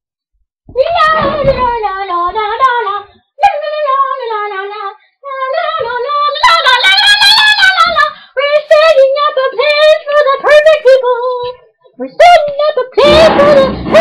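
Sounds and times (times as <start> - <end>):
high-pitched voice singing: 0.7 - 14.0.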